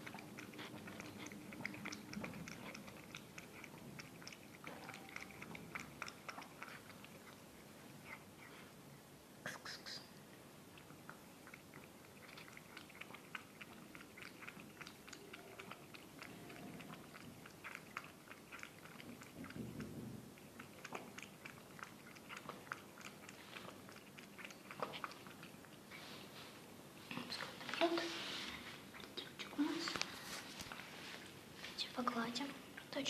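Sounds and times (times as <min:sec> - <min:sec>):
cat lapping milk: 0:00.0 - 0:08.9, 0:09.5 - 0:30.9.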